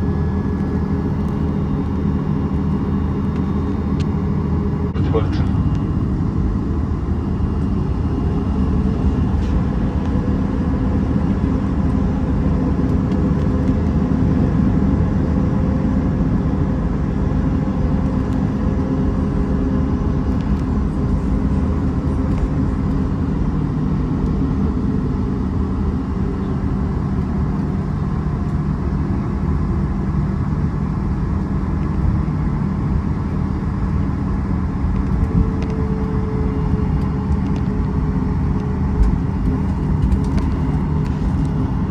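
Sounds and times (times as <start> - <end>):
low engine rumble: 0.0 - 41.9.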